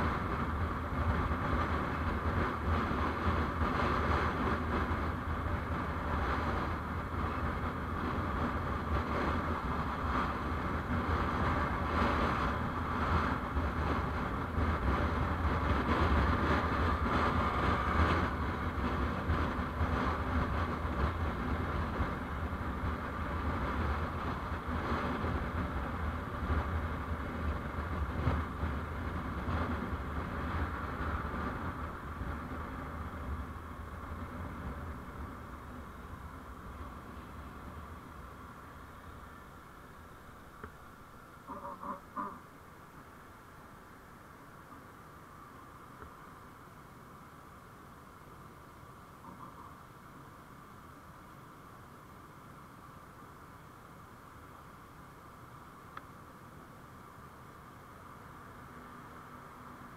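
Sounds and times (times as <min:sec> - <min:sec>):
vehicle running on road: 0:00.0 - 0:59.9.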